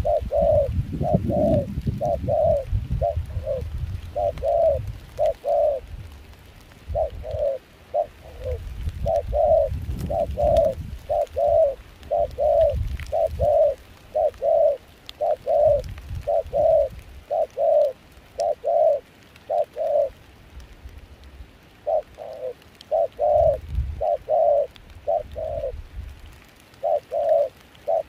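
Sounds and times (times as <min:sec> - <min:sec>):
dove cooing: 0:00.0 - 0:05.9, 0:06.6 - 0:20.3, 0:21.8 - 0:28.0.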